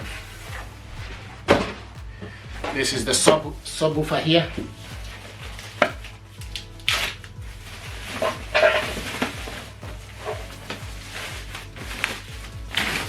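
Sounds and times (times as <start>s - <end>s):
background music with bass line: 0.0s - 13.0s.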